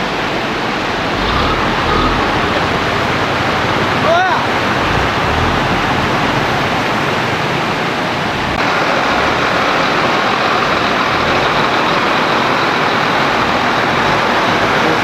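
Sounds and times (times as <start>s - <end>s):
floodwater rushing: 0.0s - 15.0s
heavy vehicle engine rumble: 0.0s - 15.0s.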